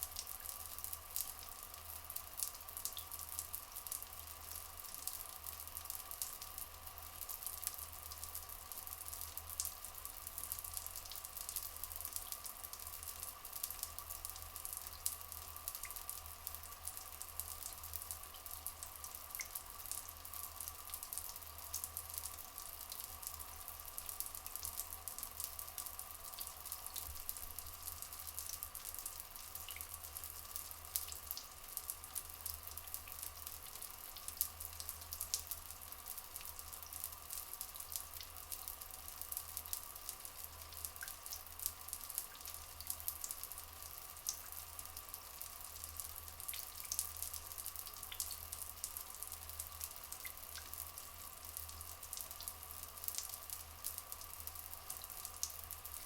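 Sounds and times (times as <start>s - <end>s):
small drips and crackles: 0.0s - 56.0s
water trickling: 0.0s - 56.0s.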